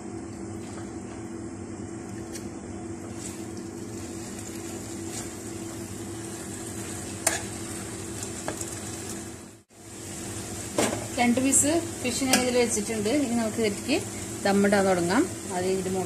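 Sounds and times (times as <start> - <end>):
food sizzling in frying pan: 3.1 - 16.0.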